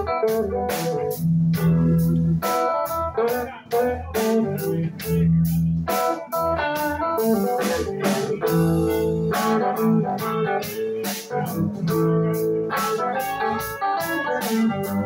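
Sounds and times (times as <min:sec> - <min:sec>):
blues rock band playing: 0:00.0 - 0:15.0
electric guitar riffing: 0:00.0 - 0:15.0
drum and cymbal strikes: 0:00.3 - 0:15.0.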